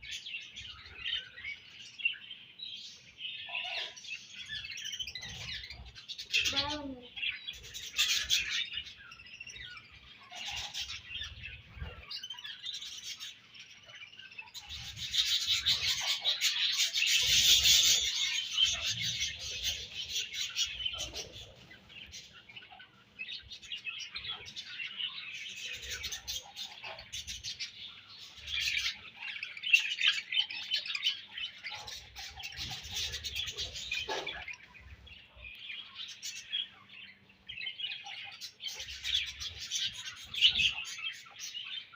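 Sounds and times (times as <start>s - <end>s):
budgerigars chattering and chirping: 0.0s - 41.9s.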